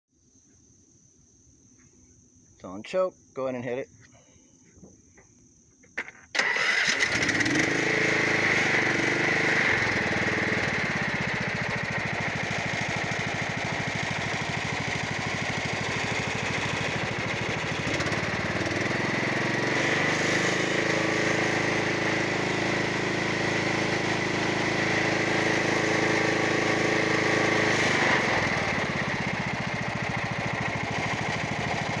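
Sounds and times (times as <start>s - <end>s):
lawn mower engine running: 6.0s - 32.0s.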